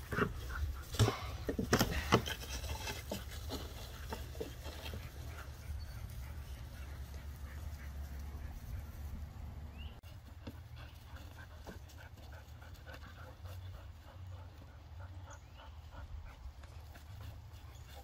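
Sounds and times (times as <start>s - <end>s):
dogs playing tug-of-war: 0.0s - 18.0s.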